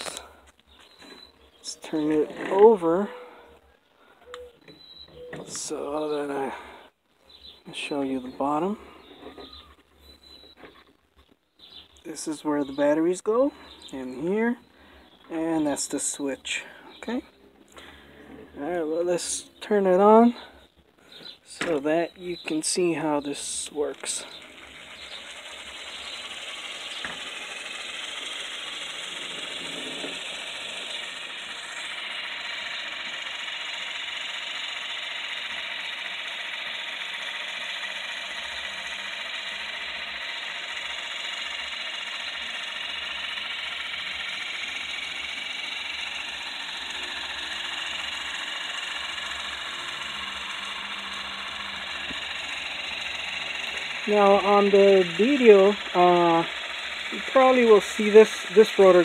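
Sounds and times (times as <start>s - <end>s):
small electric motors whirring: 0.0s - 16.3s, 17.6s - 59.0s.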